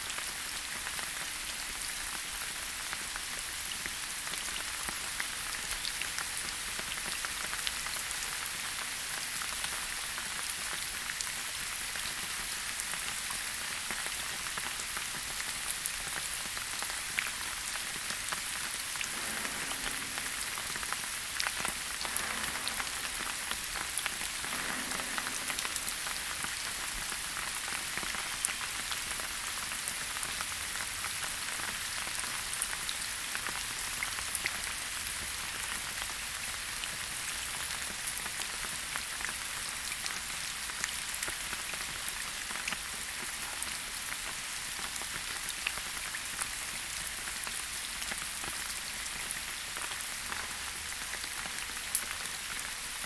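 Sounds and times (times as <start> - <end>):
rain pattering on leaves: 0.2 - 53.0.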